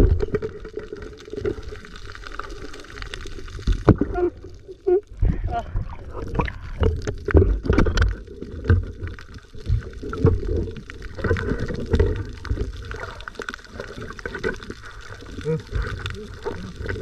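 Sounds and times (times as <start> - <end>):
water bubbling underwater: 0.0 - 17.0.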